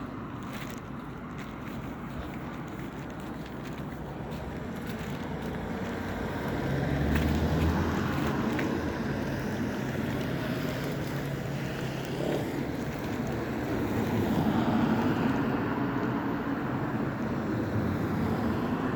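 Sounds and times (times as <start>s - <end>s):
passing vehicles: 0.0s - 18.9s.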